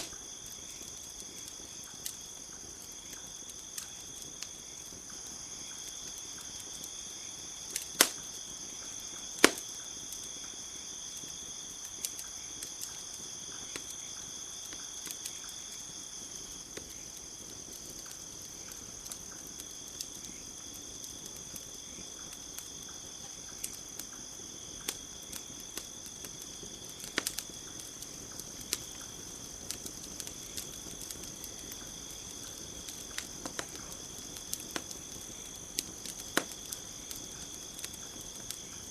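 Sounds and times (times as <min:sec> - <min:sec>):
campfire crackling: 0:00.0 - 0:38.9
insects trilling: 0:00.0 - 0:38.9.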